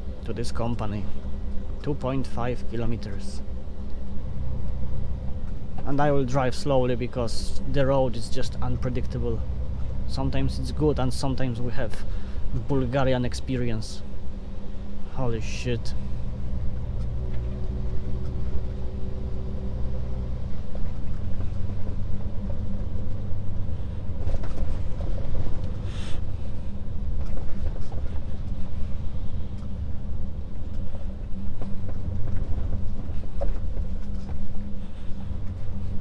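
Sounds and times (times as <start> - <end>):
truck engine low drone: 0.0 - 36.0.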